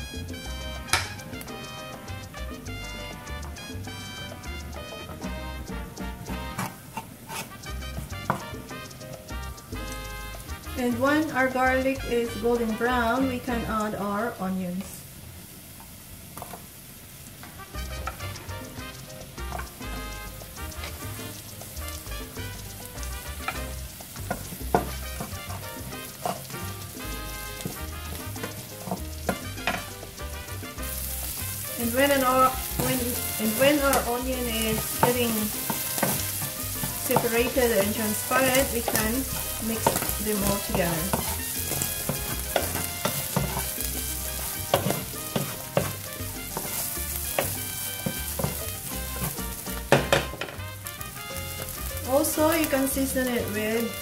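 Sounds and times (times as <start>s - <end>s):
background music with steady beat: 0.0s - 14.0s, 17.6s - 54.0s
onion and garlic sizzling in oil: 0.0s - 54.0s
wooden spatula scraping a pan: 0.5s - 13.9s, 17.4s - 54.0s.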